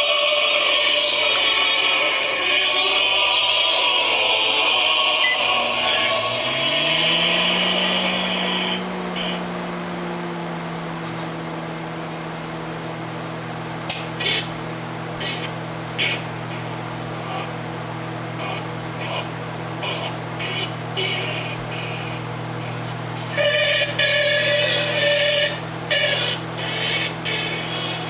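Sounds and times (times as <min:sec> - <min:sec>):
microwave oven humming: 0:00.0 - 0:28.0.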